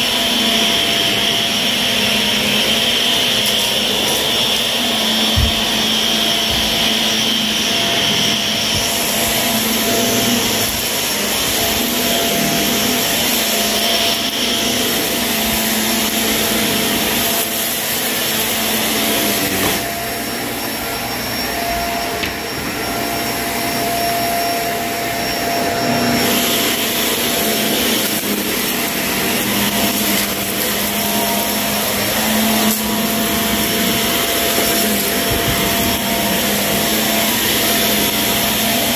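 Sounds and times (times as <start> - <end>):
vacuum cleaner on carpet: 0.0 - 38.9.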